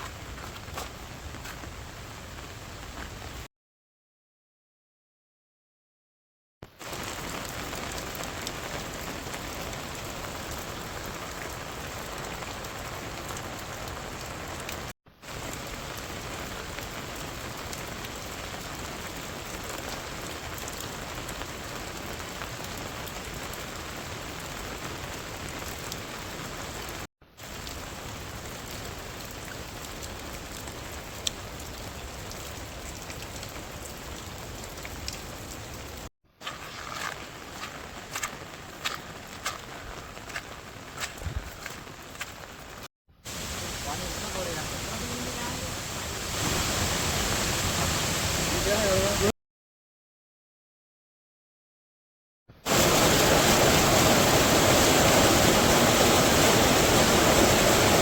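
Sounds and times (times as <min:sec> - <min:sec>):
steady rain falling: 0:00.0 - 0:03.5, 0:06.6 - 0:49.3, 0:52.7 - 0:58.0.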